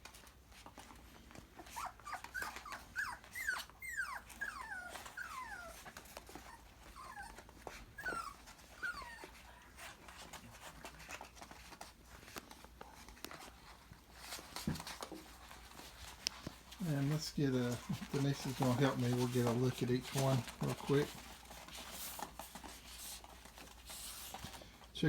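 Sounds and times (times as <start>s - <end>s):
puppies whimpering: 1.5s - 12.6s, 13.4s - 24.3s.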